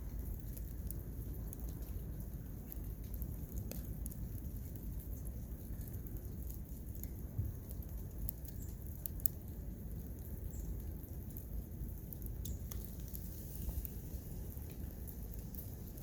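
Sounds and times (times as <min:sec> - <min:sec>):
steady low rumble: 0:00.0 - 0:16.0
wood fire crackling: 0:00.0 - 0:16.0.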